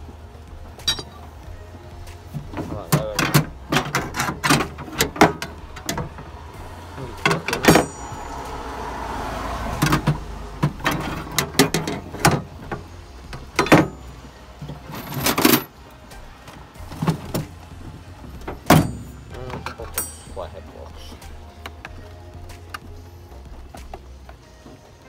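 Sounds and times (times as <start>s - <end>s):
hard objects knocking and rattling: 0.6s - 8.7s, 9.6s - 24.9s.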